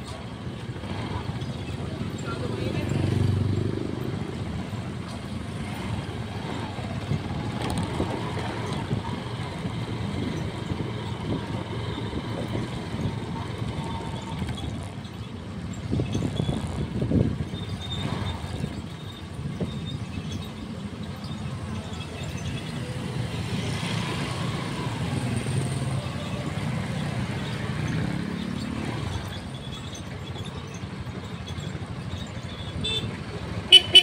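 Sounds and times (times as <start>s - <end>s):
road noise: 0.0s - 34.0s
wind: 0.0s - 34.0s.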